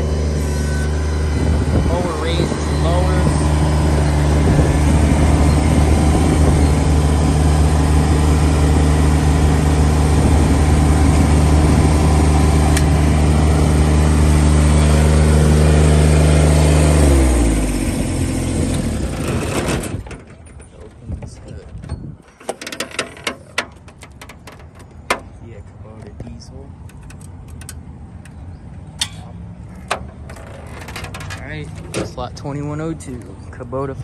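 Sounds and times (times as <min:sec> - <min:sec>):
tractor diesel engine running: 0:00.0 - 0:25.4, 0:26.8 - 0:34.0.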